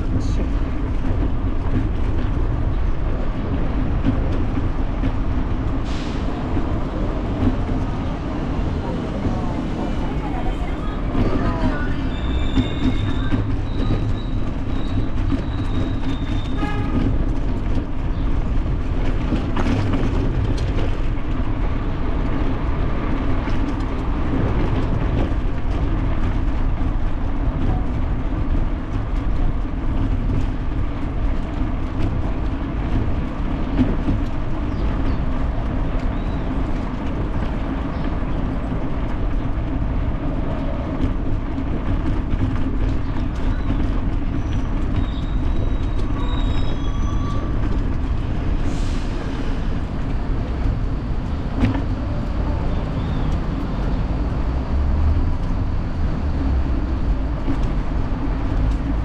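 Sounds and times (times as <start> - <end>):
bicycle rolling over cobblestones: 6.5 - 48.7, 49.5 - 59.0.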